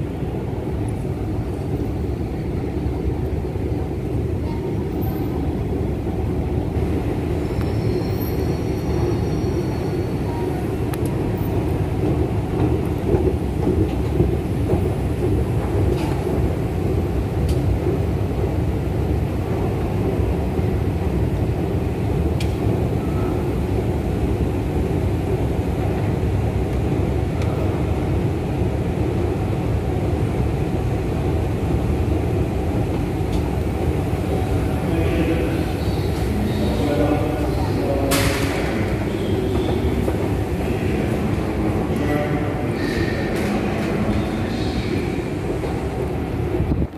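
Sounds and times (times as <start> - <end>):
station hall noise: 0.0 - 46.9.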